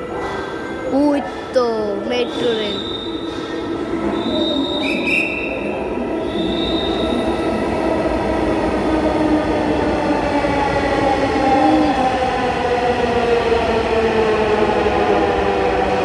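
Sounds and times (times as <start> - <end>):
electric train rumbling: 0.0 - 16.0
whine of train wheels and motors: 2.8 - 16.0.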